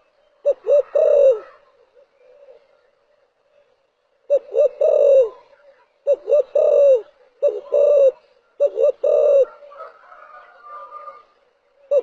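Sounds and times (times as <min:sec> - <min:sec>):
dove cooing: 0:00.0 - 0:02.8, 0:04.3 - 0:12.0.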